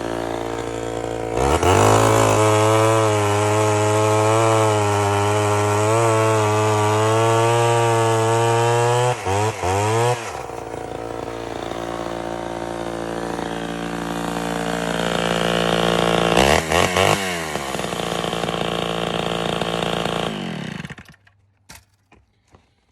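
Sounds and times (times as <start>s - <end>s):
chainsaw revving and idling: 0.0s - 21.3s.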